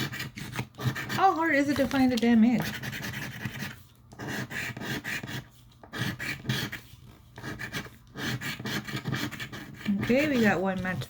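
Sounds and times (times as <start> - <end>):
scratching lottery ticket: 0.0 - 11.0.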